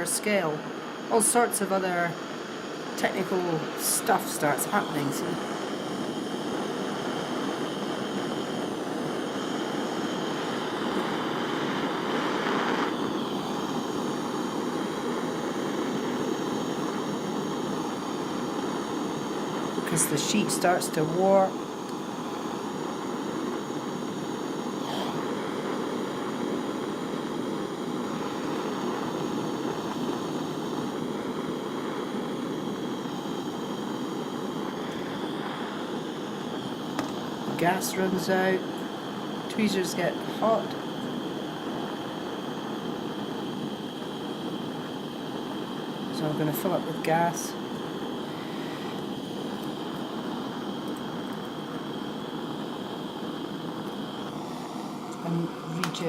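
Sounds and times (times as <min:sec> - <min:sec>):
torch flame hissing: 0:00.0 - 0:56.0.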